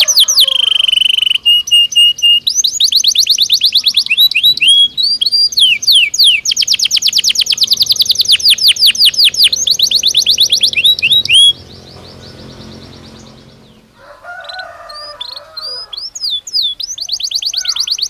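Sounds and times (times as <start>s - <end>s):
slurred canary whistles: 0.0s - 11.6s, 14.5s - 18.0s
canary singing trills: 0.0s - 18.0s.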